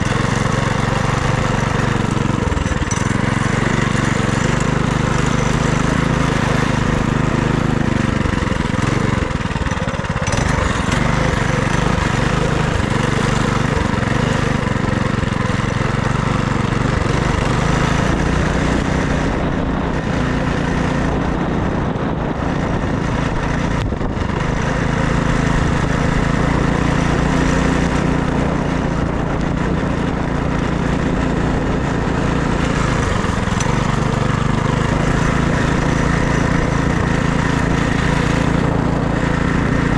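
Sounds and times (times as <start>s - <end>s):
small minibike engine running: 0.0s - 39.9s.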